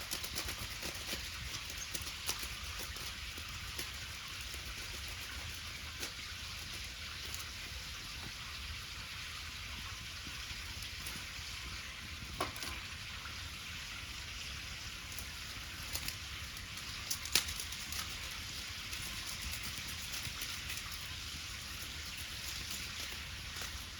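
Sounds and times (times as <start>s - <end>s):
batter sizzling in a pan: 0.0s - 23.9s
burning wood crackles: 0.0s - 23.9s.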